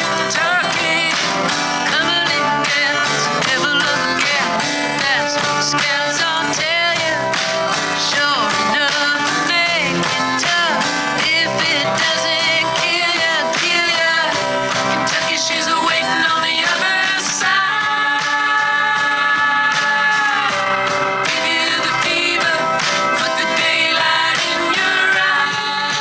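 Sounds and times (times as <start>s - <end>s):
guitar accompaniment: 0.0s - 26.0s
person singing: 0.1s - 7.2s, 8.0s - 17.8s, 21.2s - 26.0s.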